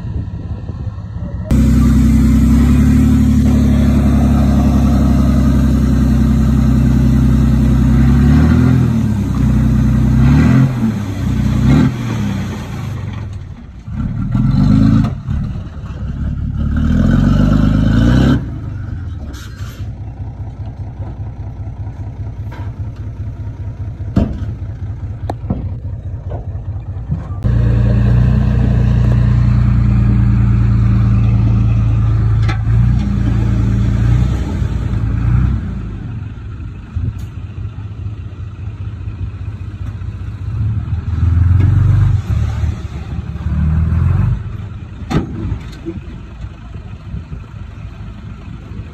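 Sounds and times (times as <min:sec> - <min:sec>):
heavy diesel engine running: 0:00.0 - 0:41.4, 0:42.5 - 0:48.9.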